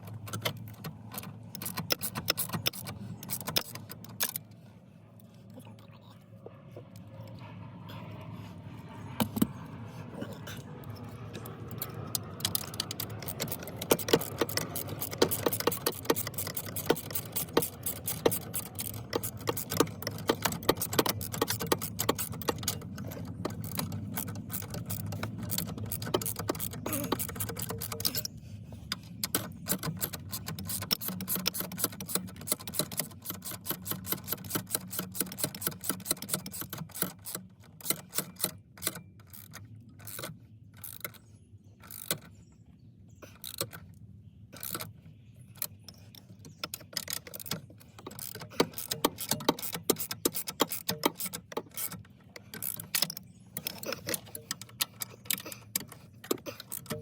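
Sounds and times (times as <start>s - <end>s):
clicking and knocking of tools: 0.0s - 4.6s, 10.6s - 41.2s, 44.6s - 45.0s, 45.6s - 57.0s.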